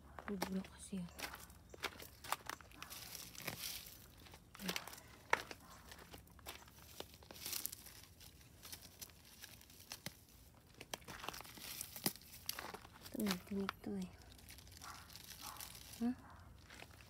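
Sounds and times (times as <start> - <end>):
light rustling and crinkling: 0.2 - 17.0.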